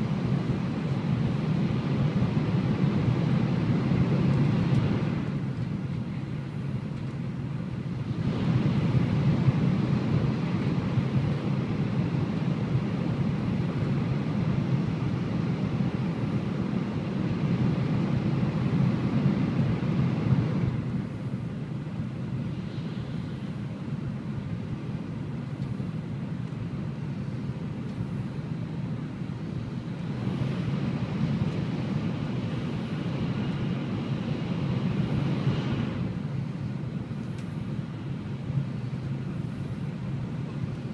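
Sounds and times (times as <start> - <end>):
train rumbling through tunnel: 4.0 - 40.9.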